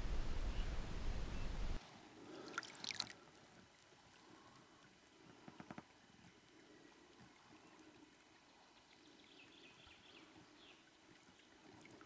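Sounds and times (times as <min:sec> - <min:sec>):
faint water noise: 0:01.8 - 0:12.0.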